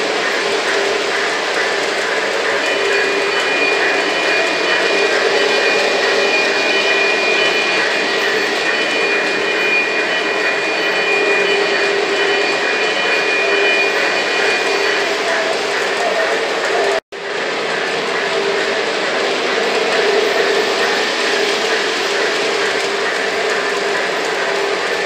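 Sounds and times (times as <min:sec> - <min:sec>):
high whine: 0:00.0 - 0:25.0.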